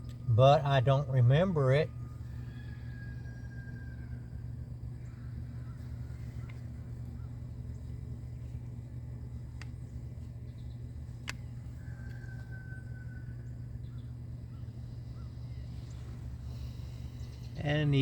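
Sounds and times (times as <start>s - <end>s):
faint high whine: 0.0s - 18.0s
steady low hum: 0.0s - 18.0s.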